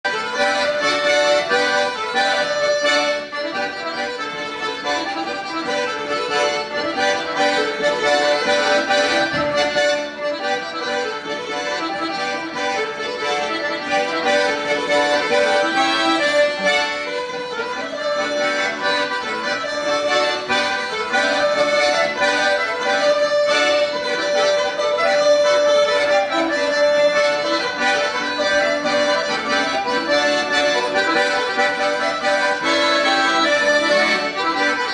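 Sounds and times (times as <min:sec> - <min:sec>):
button accordions playing: 0:00.0 - 0:34.9.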